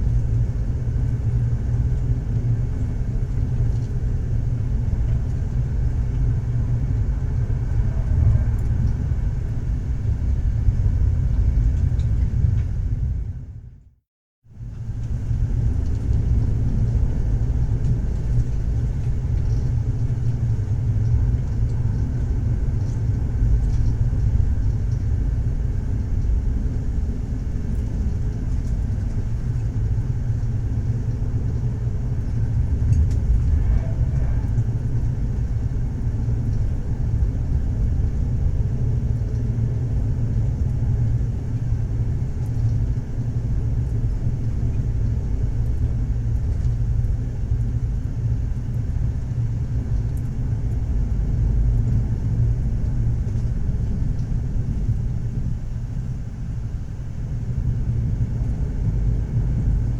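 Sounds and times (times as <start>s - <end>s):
train rumble inside a carriage: 0.0s - 13.9s, 14.5s - 59.9s.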